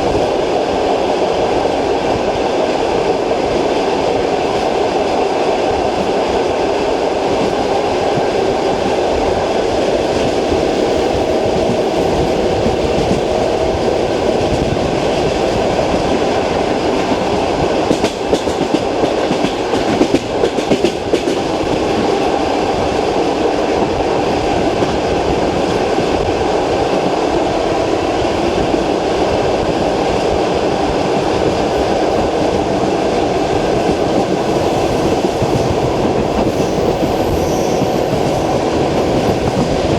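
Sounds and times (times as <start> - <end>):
train rumble inside carriage: 0.0 - 39.9.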